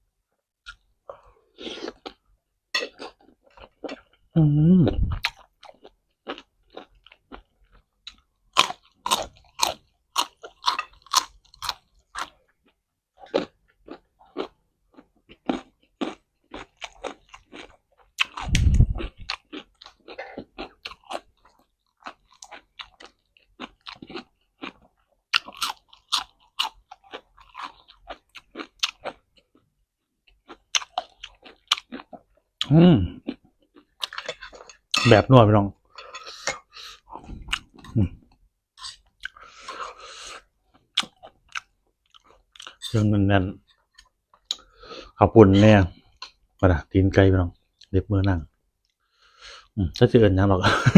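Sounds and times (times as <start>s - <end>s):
person chewing crisp food: 0.7s - 2.2s, 2.8s - 4.3s, 4.9s - 35.1s, 35.8s - 46.5s.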